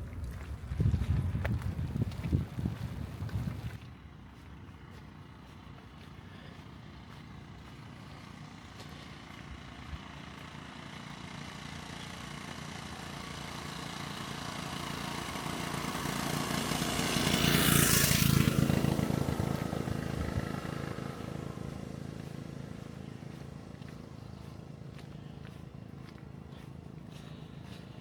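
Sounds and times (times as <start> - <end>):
motor vehicle passing: 0.0 - 28.0.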